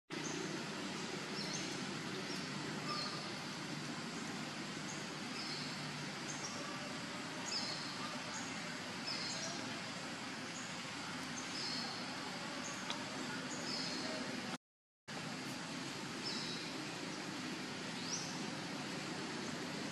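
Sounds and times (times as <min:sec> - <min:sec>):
outdoor background hiss: 0:00.1 - 0:19.9.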